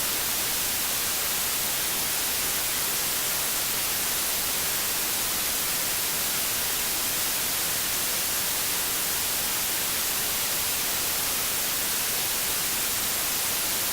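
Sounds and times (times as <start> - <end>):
white-noise static hiss: 0.0 - 13.9.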